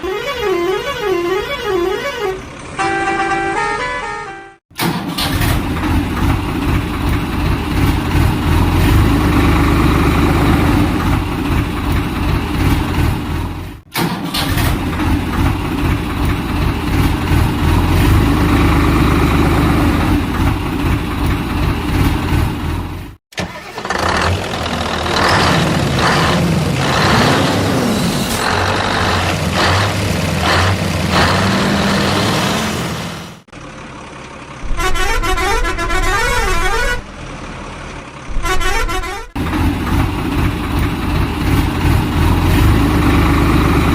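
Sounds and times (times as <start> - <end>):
vehicle engine rumbling: 4.7 - 43.9.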